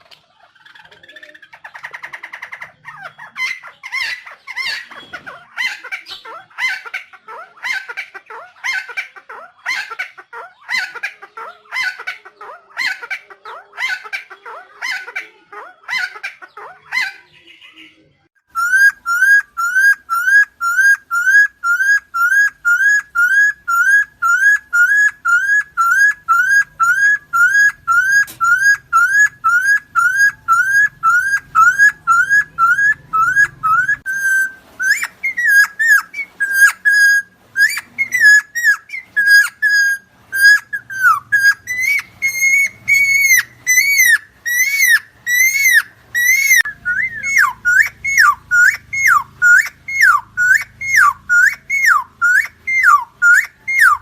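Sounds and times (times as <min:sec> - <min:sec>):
bird harsh raspy calls: 0:00.0 - 0:54.0.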